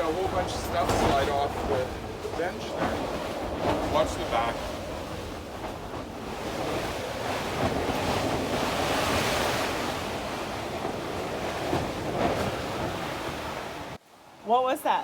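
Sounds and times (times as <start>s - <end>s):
strong wind gusting: 0.0s - 14.0s.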